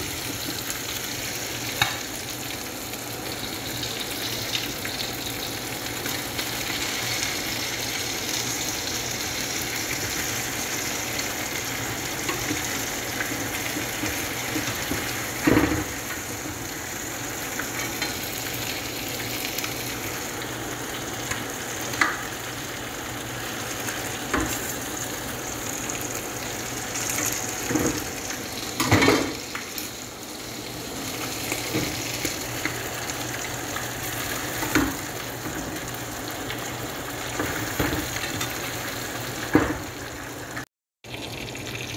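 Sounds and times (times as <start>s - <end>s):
chicken sizzling in a frying pan: 0.0s - 41.9s.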